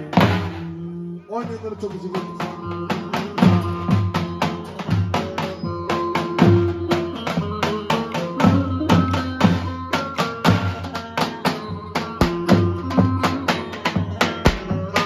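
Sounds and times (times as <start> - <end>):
melody of held notes: 0.8 - 15.0
large drum beating quick rhythm: 2.1 - 15.0.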